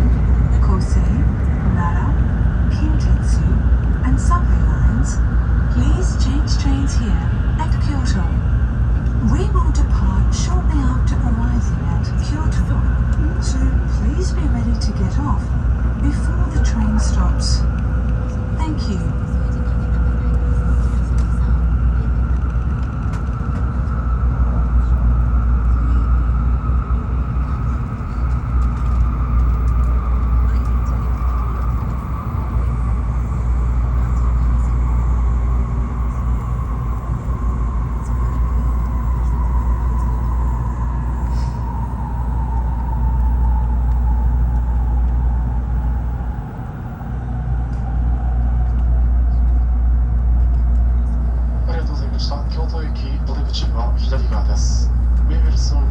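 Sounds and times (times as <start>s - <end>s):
train running rumble: 0.0s - 55.9s.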